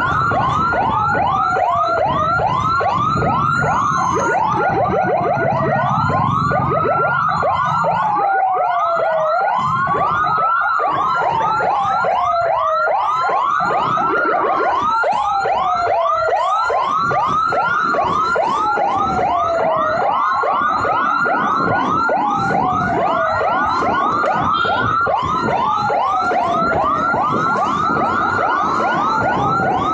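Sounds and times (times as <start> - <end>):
fast yelping siren: 0.0 - 29.9
wailing emergency siren: 0.0 - 29.9.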